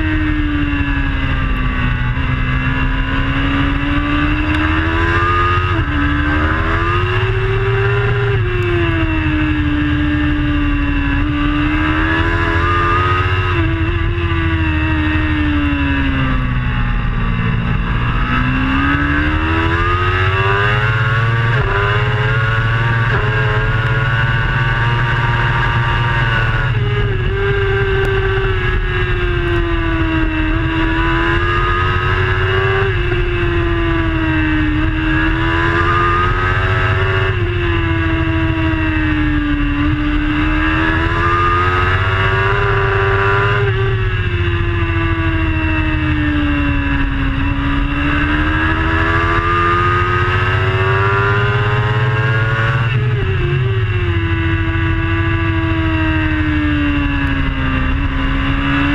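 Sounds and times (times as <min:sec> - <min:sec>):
motorcycle engine at full speed: 0:00.0 - 0:58.9.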